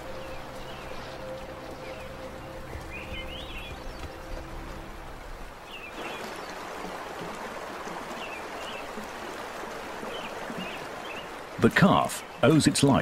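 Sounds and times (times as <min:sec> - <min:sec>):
rushing white-water river: 0:00.0 - 0:13.0.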